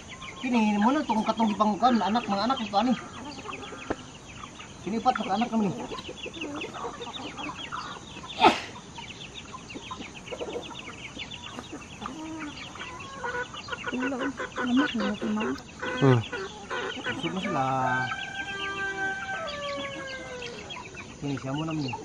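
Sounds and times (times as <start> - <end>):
chickens clucking: 0.0 - 22.0
chicks peeping: 0.0 - 22.0.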